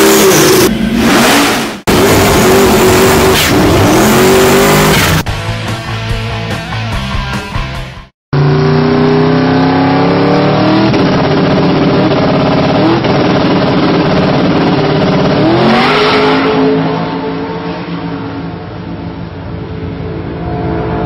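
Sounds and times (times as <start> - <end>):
car engine accelerating hard: 0.0 - 5.3, 8.3 - 21.0.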